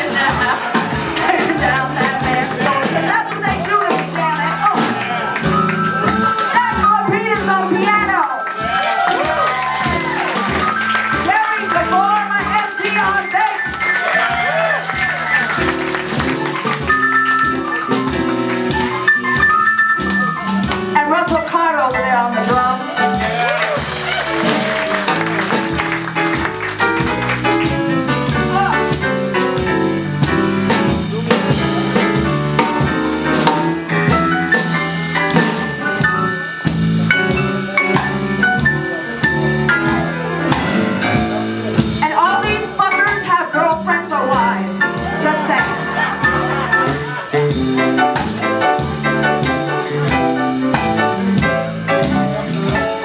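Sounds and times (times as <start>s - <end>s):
bass line: 0.0s - 53.0s
drum kit beat: 0.0s - 53.0s
jazz-blues band playing: 0.0s - 53.0s.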